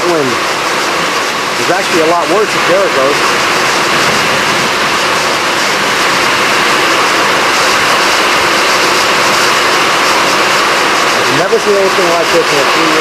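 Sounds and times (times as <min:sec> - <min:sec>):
gusty wind: 0:00.0 - 0:13.0
torrential rain: 0:00.0 - 0:13.0.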